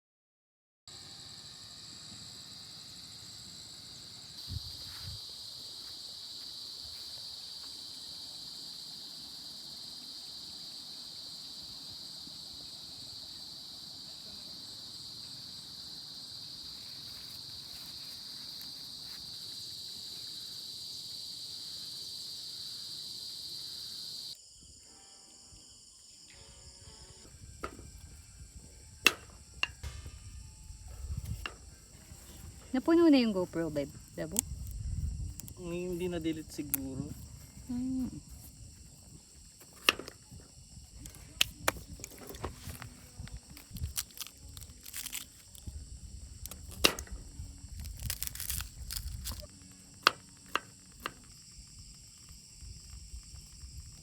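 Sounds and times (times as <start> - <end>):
high-pitched insect chorus: 0.9 - 54.0.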